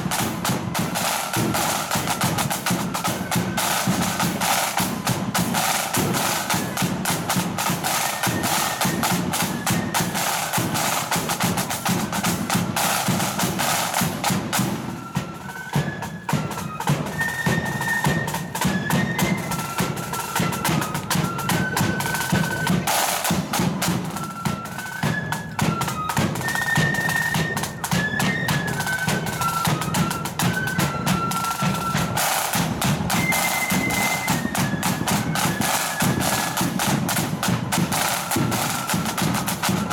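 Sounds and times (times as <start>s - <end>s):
flutes playing melody: 0.0s - 39.9s
snare drums: 0.0s - 39.9s.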